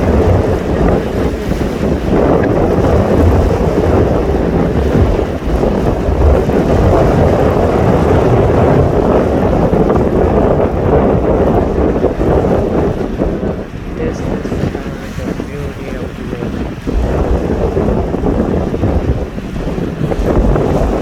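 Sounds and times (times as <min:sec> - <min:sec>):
sea waves washing ashore: 0:00.0 - 0:21.0
wind buffeting microphone: 0:00.0 - 0:21.0.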